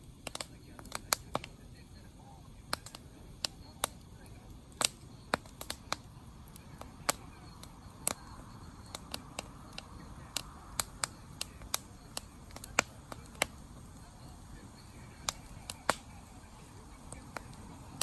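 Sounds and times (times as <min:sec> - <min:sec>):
campfire crackling and popping: 0:00.0 - 0:18.0
low rush of flame: 0:00.0 - 0:18.0.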